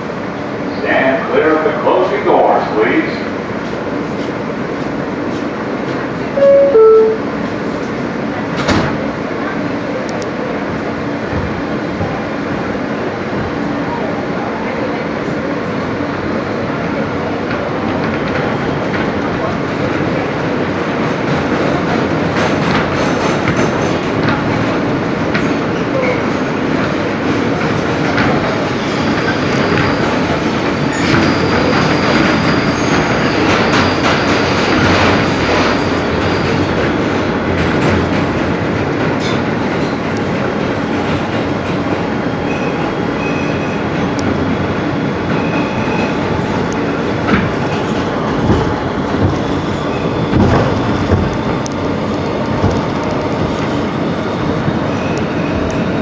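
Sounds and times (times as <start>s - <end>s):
subway car rumbling: 0.0s - 56.0s.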